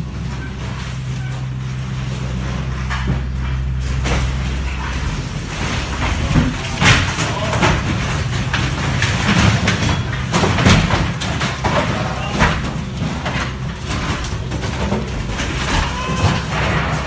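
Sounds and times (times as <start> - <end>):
building knocks and crunches: 0.0 - 17.0
diesel engine rumbling: 0.0 - 17.0.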